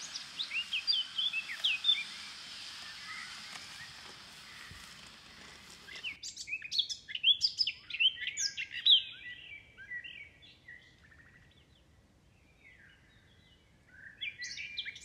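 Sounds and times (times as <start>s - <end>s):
songbird chirping and whistling: 0.0s - 11.5s, 12.5s - 15.0s.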